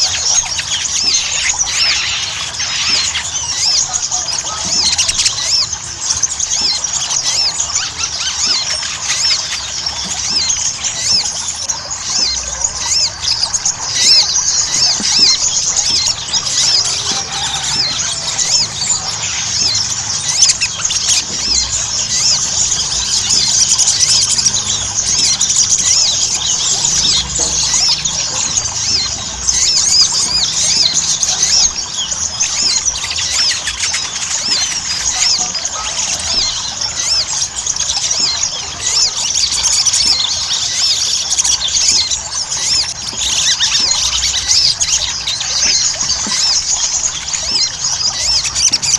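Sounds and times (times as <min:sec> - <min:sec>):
bird chirping and twittering: 0:00.0 - 0:48.9.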